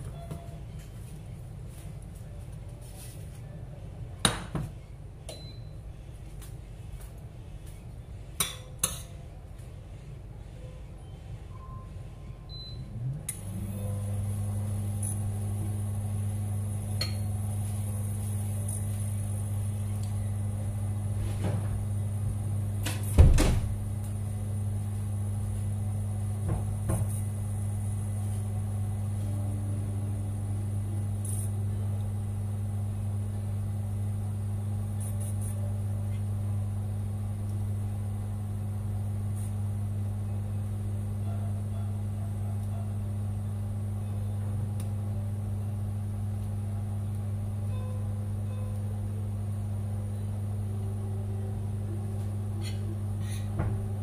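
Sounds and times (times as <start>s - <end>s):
cooktop humming with high whine: 0.0s - 54.0s.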